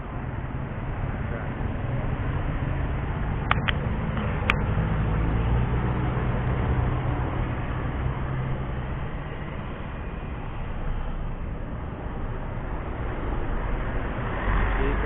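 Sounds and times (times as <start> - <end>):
car engine passing: 0.0 - 15.0
tyre and road noise: 0.0 - 15.0
motorbike approaching: 0.9 - 10.7, 12.6 - 15.0.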